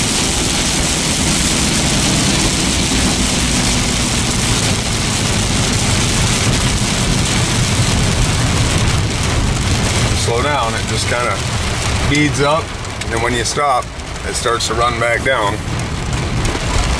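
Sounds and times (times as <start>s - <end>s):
heavy rain on car roof: 0.0s - 16.9s
tyres and engine rumble: 0.0s - 16.9s.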